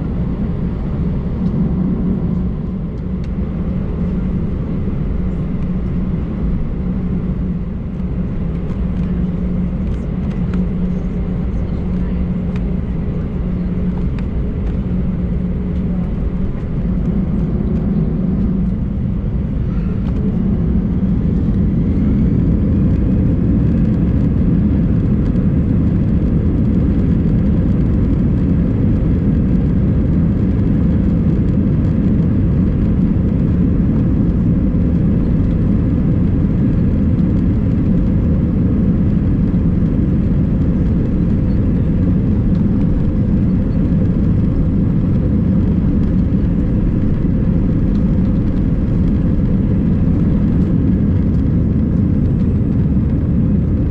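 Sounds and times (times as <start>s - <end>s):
jet airliner taxiing rumble: 0.0s - 53.9s.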